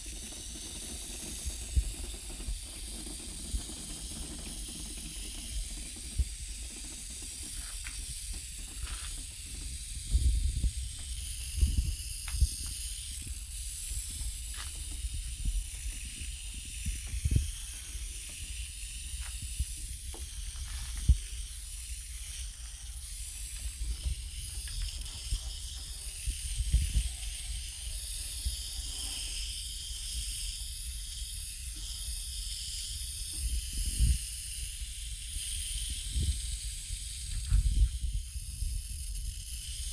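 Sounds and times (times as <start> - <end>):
hose water spray hissing: 0.0 - 39.9.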